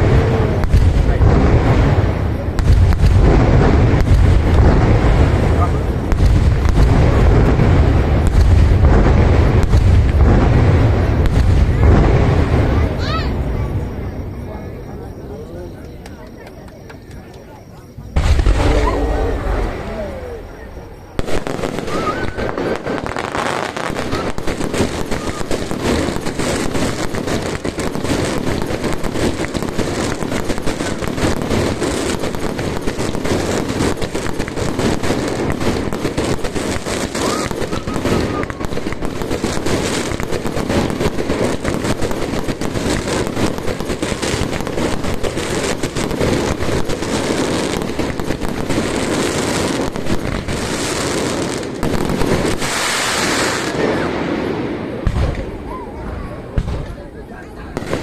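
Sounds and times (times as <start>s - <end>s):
firework crackling: 0.0s - 14.8s, 15.7s - 58.0s.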